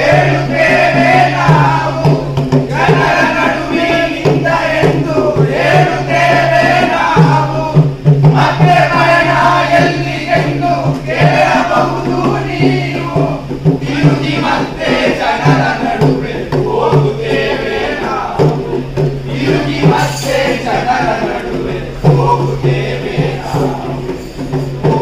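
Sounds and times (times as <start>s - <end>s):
chorus of voices singing: 0.0s - 25.0s
steady drum rhythm: 0.0s - 25.0s.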